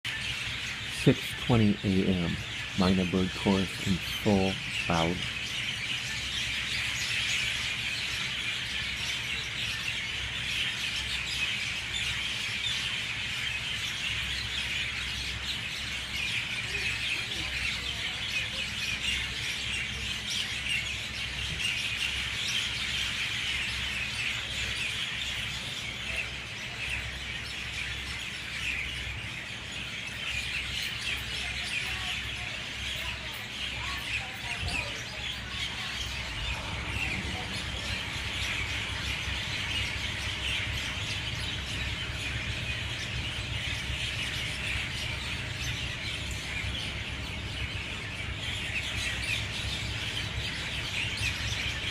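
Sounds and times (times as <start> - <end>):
mynah birds calling and chirping: 0.0 - 51.9
low steady rumble: 0.2 - 51.9.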